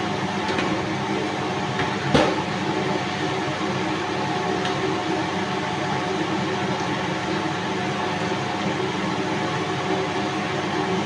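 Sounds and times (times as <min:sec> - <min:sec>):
ventilation fan whirring: 0:00.0 - 0:11.0.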